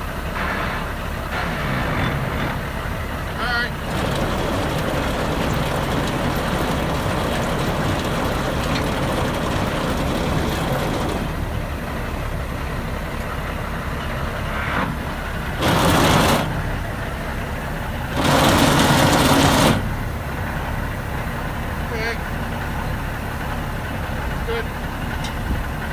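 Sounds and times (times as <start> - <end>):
diesel truck engine idling: 0.0 - 25.9.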